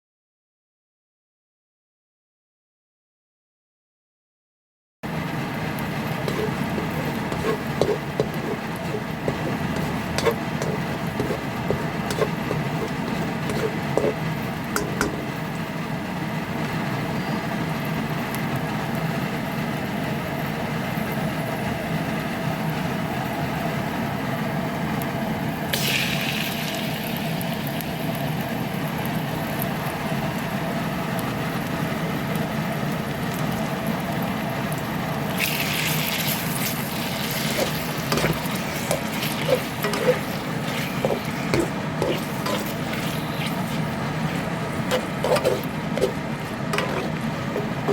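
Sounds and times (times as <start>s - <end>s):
low mechanical hum: 5.0s - 47.9s.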